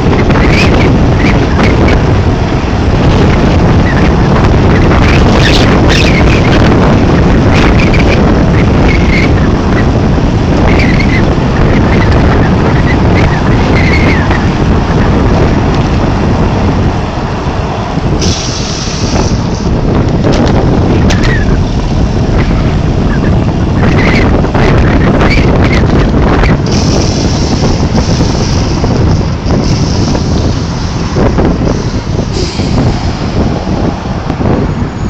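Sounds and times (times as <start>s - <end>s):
blizzard wind on microphone: 0.0s - 35.0s.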